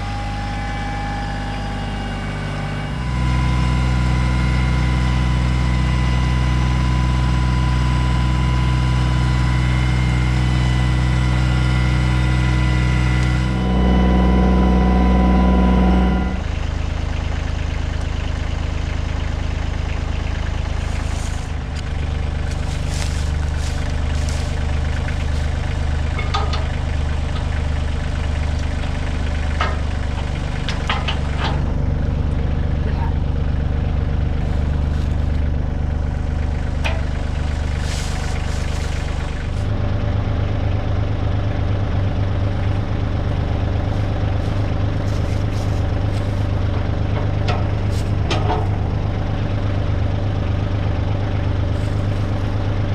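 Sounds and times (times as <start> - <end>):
tractor diesel engine running: 0.0 - 52.9
hum: 2.9 - 52.9.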